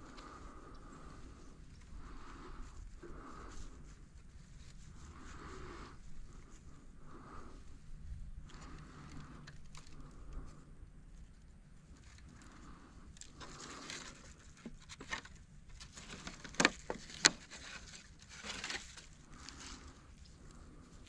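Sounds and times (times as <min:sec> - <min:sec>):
handling rustling and scraping: 0:00.0 - 0:21.0.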